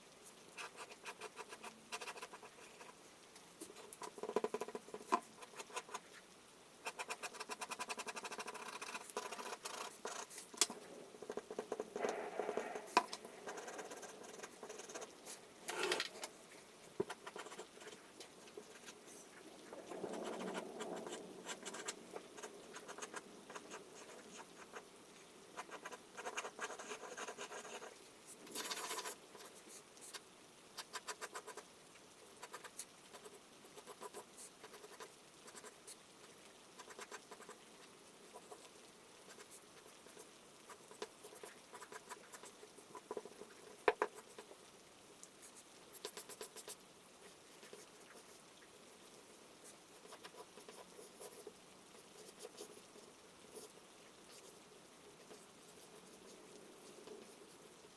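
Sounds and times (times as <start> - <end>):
faint steady hiss: 0.0 - 57.9.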